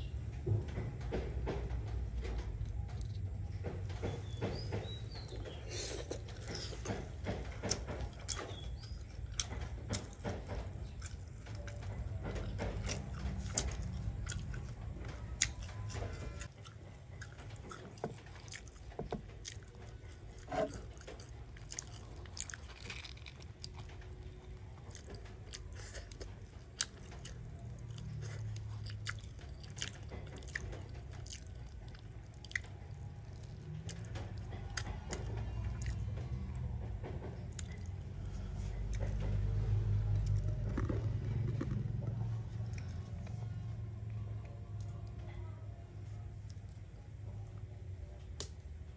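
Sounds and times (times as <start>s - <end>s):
low steady rumble: 0.0s - 48.9s.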